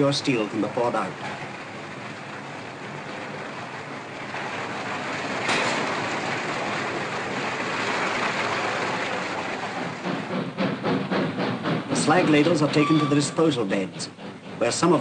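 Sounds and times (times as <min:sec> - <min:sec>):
noisy industrial machinery: 0:00.0 - 0:15.0.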